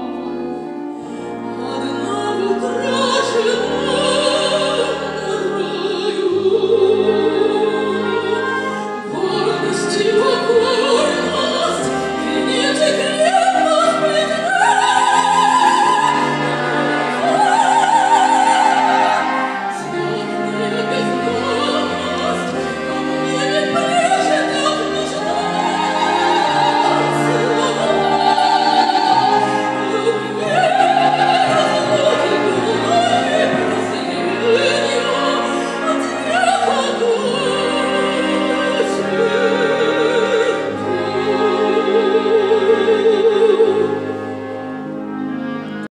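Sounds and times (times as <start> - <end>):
wind band of flutes and brass: 0.0 - 45.9
woman singing operatically: 1.3 - 44.0.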